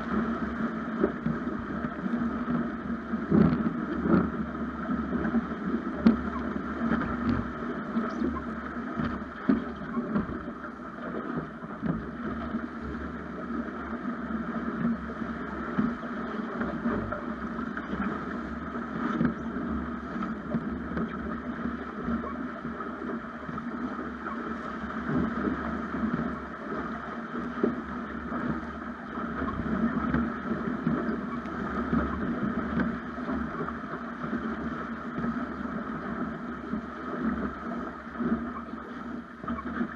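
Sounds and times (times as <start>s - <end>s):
water rushing along a hull: 0.0s - 39.9s
wind noise on microphone: 0.0s - 39.9s.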